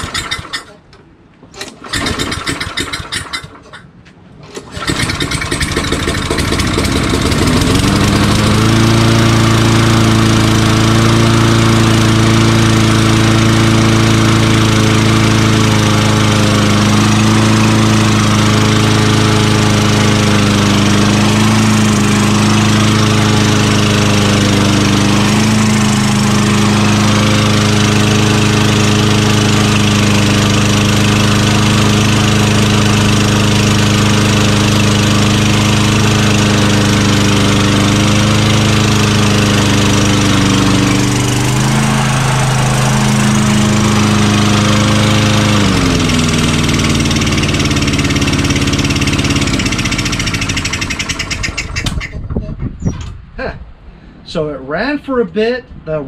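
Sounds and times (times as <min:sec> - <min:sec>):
lawn mower engine running: 0:00.0 - 0:00.9, 0:01.5 - 0:52.3.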